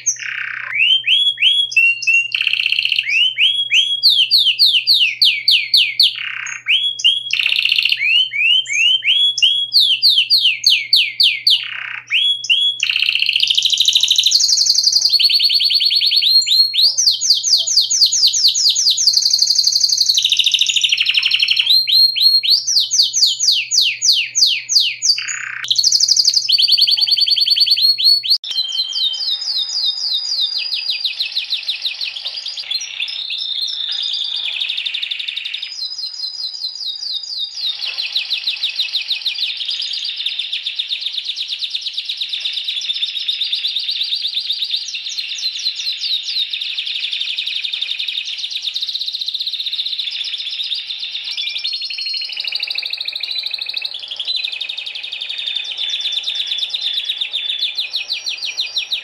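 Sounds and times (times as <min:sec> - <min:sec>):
canaries singing trills: 0:00.0 - 0:59.0.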